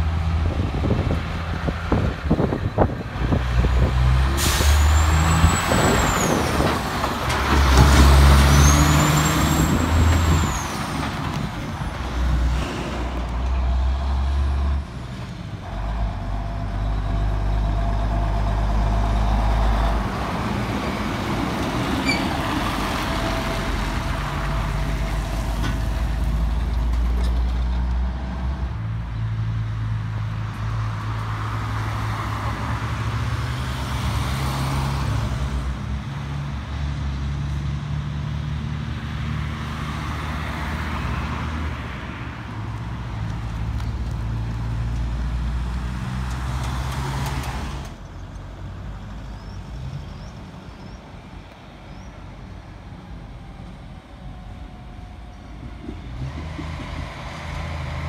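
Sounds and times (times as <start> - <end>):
diesel truck engines under load: 0.0 - 58.0.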